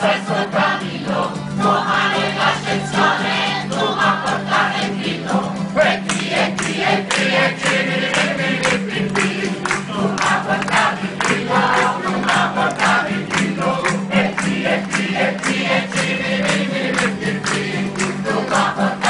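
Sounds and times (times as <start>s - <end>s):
folk singers singing in chorus: 0.0s - 19.0s
strummed acoustic guitars: 0.0s - 19.0s
hand-clapping in time: 1.8s - 19.0s.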